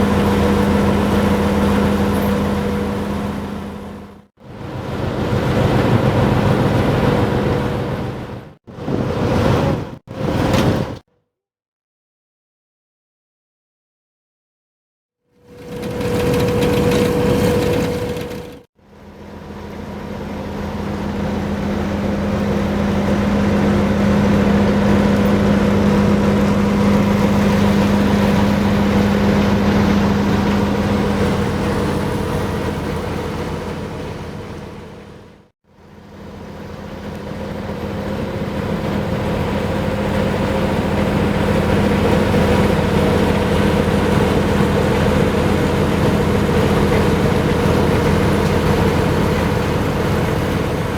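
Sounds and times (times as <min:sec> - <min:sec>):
engine drone: 0:00.0 - 0:10.9, 0:15.4 - 0:50.9.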